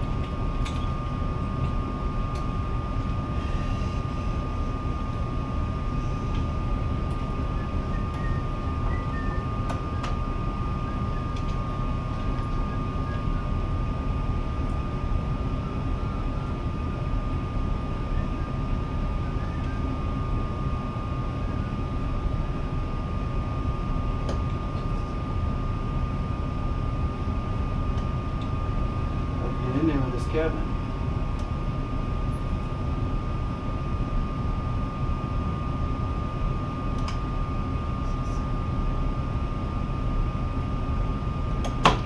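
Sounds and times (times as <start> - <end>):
machine drone with high whine: 0.0 - 42.0.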